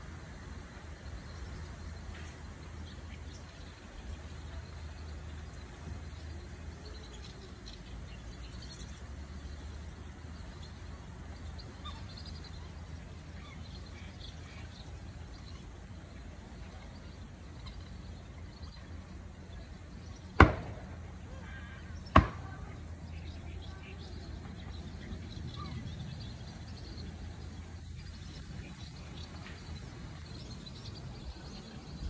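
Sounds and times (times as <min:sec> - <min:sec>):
distant birds chirping: 0:00.0 - 0:32.0.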